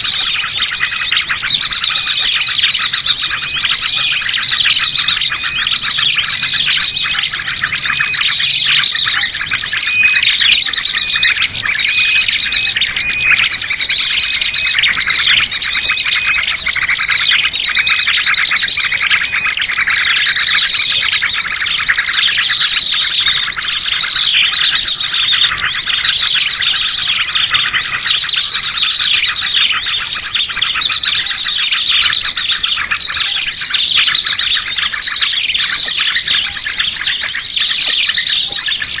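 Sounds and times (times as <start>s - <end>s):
small birds chirping and trilling: 0.0s - 39.0s.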